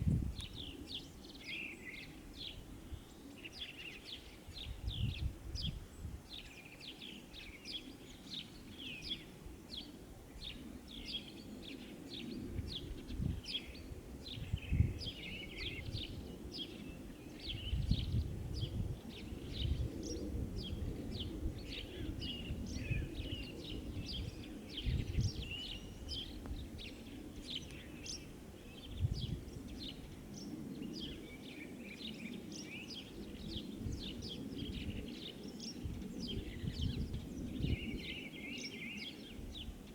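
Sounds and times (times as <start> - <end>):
songbirds chirping and singing: 6.3 - 39.9.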